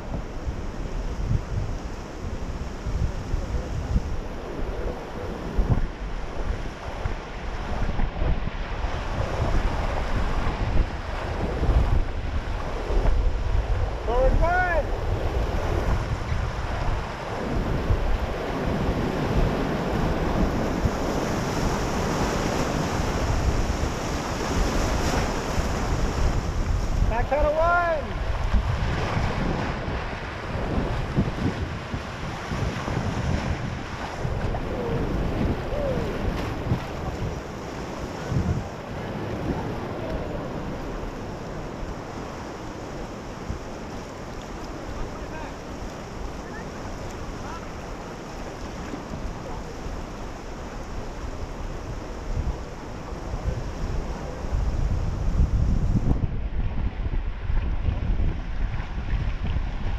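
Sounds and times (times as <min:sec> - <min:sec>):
whitewater rushing: 0:00.0 - 0:55.8
wind buffeting microphone: 0:00.0 - 0:59.9.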